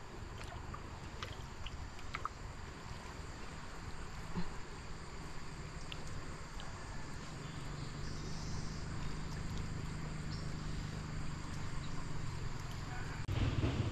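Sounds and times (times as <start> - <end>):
low hum: 0.0 - 13.9.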